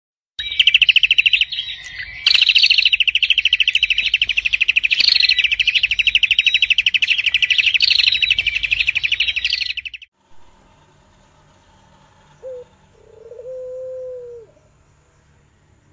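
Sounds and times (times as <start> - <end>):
songbird trilling: 0.4 - 10.1, 12.2 - 15.3.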